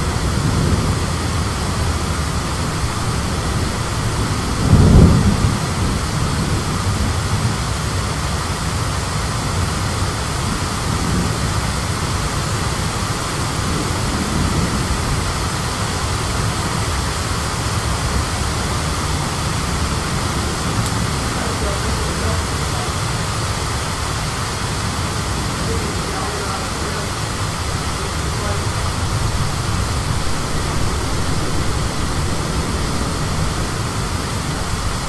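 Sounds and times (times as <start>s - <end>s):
high wind: 0.0s - 35.0s
low thunder rumble: 0.0s - 35.0s
rain: 0.0s - 35.0s.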